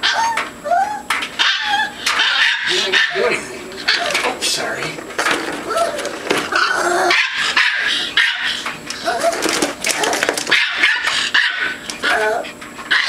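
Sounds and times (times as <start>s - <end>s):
small dogs barking: 0.0s - 4.4s, 5.6s - 13.0s.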